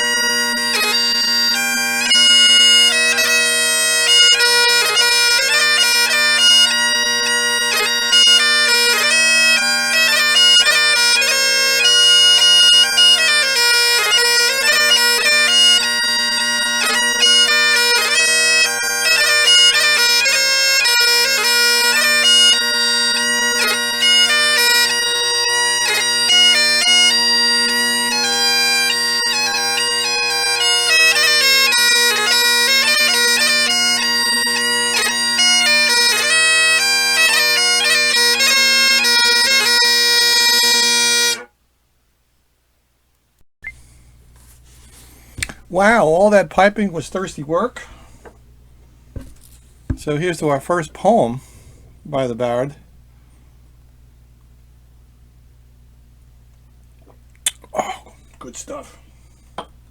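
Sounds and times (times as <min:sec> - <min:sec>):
bagpipes playing: 0:00.0 - 0:41.5, 0:44.9 - 0:48.5, 0:49.2 - 0:52.8.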